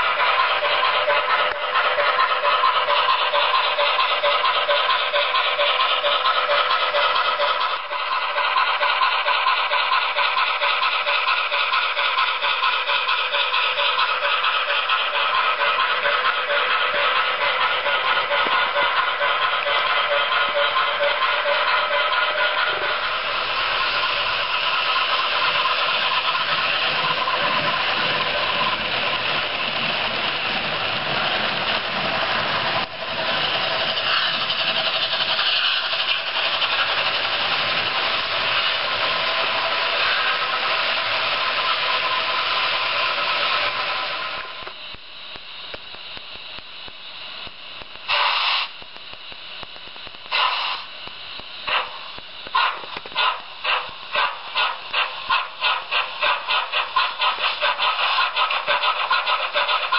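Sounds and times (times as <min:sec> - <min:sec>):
model train wheels rushing: 0:00.0 - 0:44.8, 0:48.0 - 0:48.8, 0:50.2 - 0:59.9
model steam locomotive chuffing: 0:00.0 - 0:45.0, 0:45.7 - 0:48.8, 0:50.2 - 0:59.9
steam hisses: 0:00.0 - 0:59.9.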